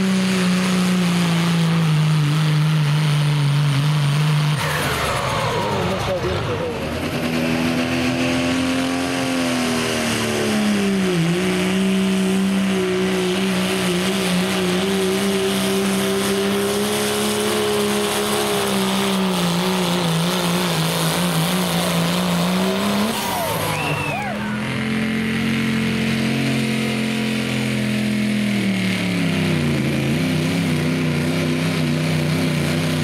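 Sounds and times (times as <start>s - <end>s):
diesel truck engine at full load: 0.0s - 33.0s.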